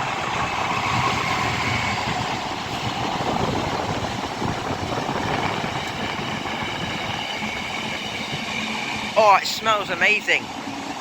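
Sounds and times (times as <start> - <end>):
diesel locomotive engine: 0.0 - 11.0
freight train rumbling past: 0.0 - 11.0.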